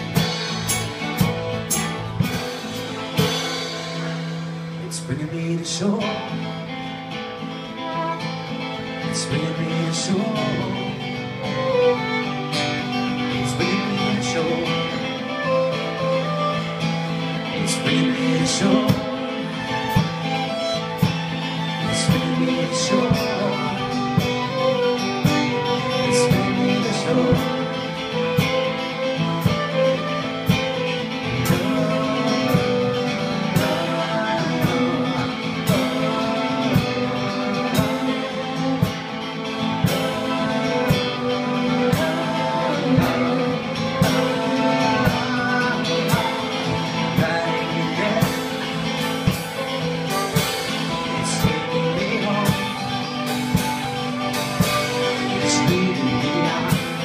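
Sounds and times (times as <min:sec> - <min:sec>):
fiddle: 0:00.0 - 0:57.0
keyboard: 0:00.0 - 0:57.0
strummed acoustic guitar: 0:00.0 - 0:57.0
person singing: 0:09.0 - 0:57.0.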